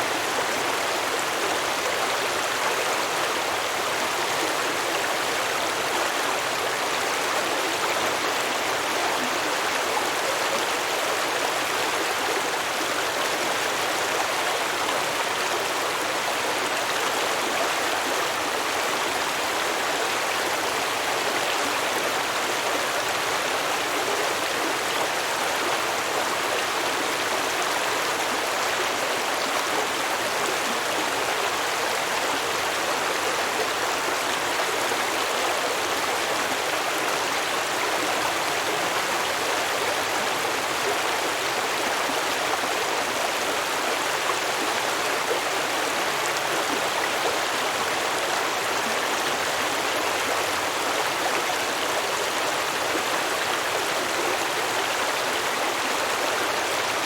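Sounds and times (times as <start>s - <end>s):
stream water babbling over rocks: 0.0s - 57.0s.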